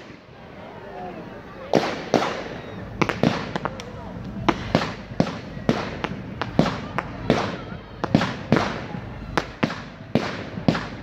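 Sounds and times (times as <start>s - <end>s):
fireworks popping: 0.0s - 0.4s, 1.6s - 11.0s
fireworks hissing: 1.6s - 11.0s.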